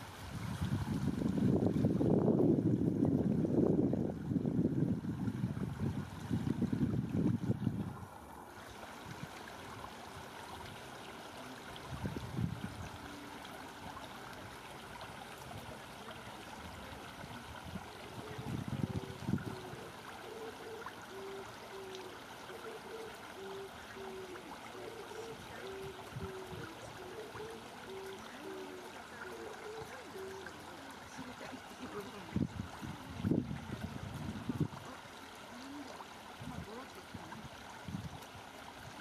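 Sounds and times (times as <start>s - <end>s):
river water trickling: 0.0s - 39.0s.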